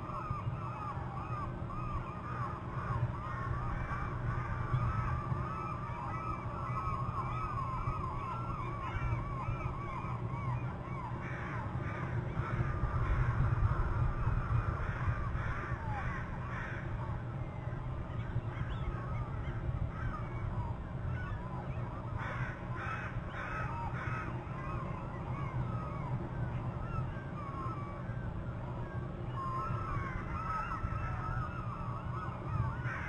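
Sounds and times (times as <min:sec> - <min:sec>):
harsh bird calls: 0:00.0 - 0:33.0.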